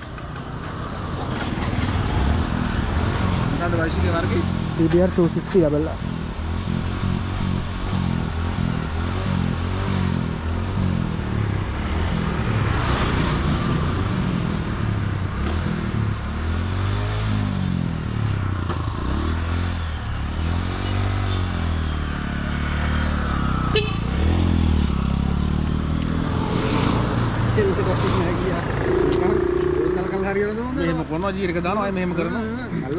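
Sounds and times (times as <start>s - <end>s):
motorcycle engine revving: 0.0s - 32.3s.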